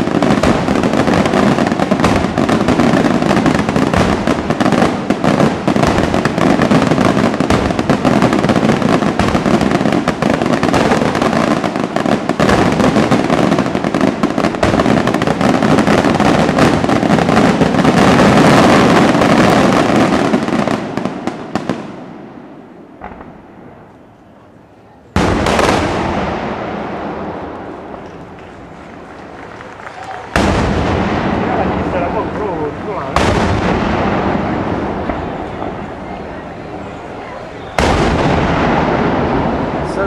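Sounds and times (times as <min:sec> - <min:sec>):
firecracker bangs and crackles: 0:00.0 - 0:24.5, 0:25.1 - 0:40.0.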